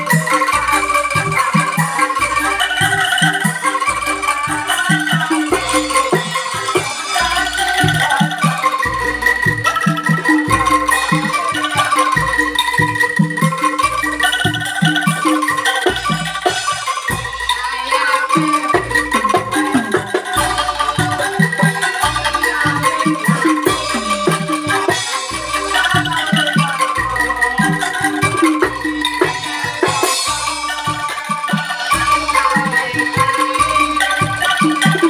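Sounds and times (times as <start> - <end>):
bamboo instruments melody: 0.0 - 35.0.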